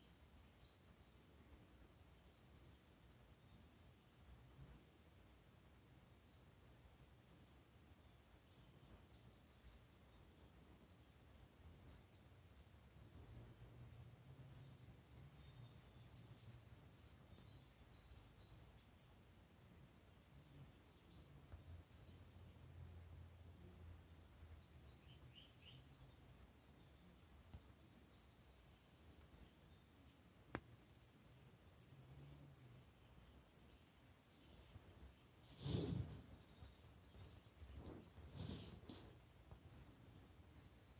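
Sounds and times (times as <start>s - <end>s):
faint high chirps and ticks: 0.0s - 40.9s.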